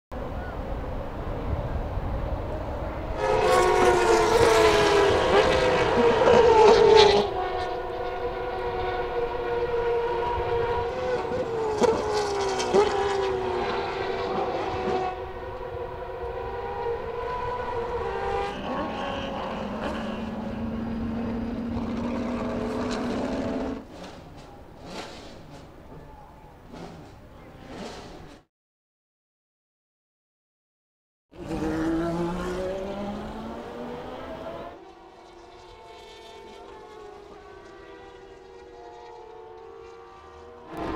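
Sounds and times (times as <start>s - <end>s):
race car engines accelerating: 0.2s - 28.2s, 31.4s - 40.9s.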